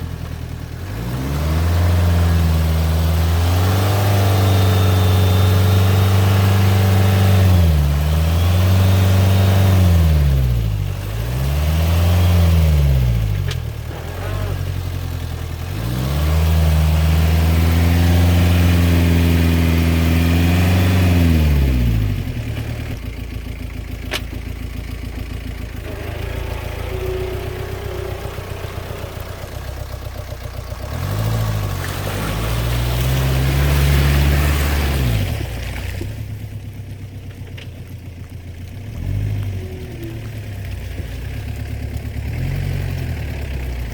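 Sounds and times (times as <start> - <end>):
diesel engine under throttle: 0.0 - 43.9.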